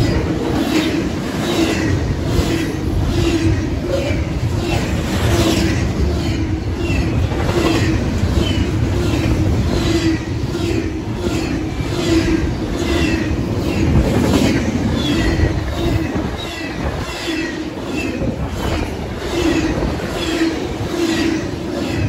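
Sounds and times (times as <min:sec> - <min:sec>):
freight train passing: 0:00.0 - 0:22.0
wheels clattering on rails: 0:00.0 - 0:22.0
wind buffeting microphone: 0:00.0 - 0:22.0.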